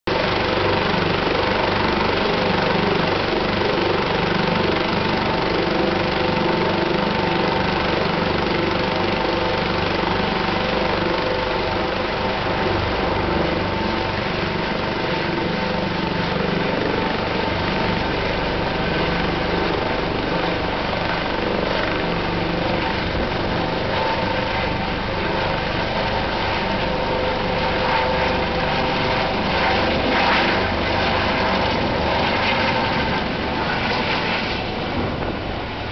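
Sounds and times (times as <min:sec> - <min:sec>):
helicopter rotor noise: 0:00.1 - 0:35.9
helicopter turbine whine: 0:00.1 - 0:35.9.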